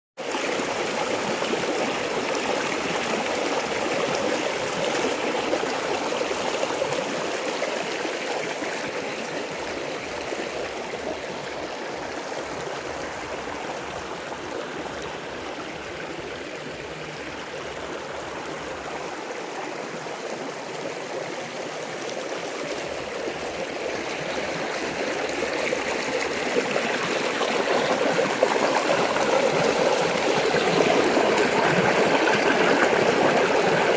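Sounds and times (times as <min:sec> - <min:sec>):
flowing water rushing: 0:00.2 - 0:33.9.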